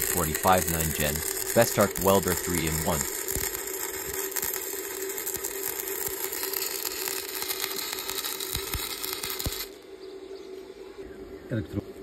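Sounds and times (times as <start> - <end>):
welding arc crackling and sizzling: 0.0 - 9.9
steady hum: 0.0 - 12.0.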